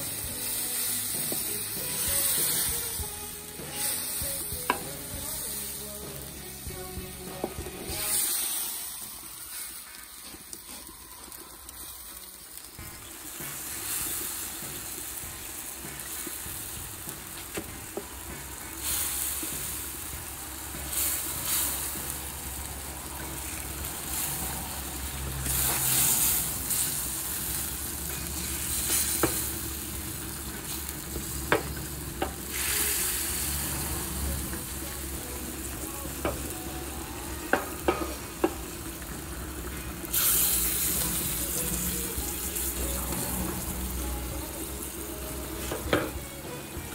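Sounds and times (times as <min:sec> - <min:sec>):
meat sizzling in a pan: 0:00.0 - 0:46.9.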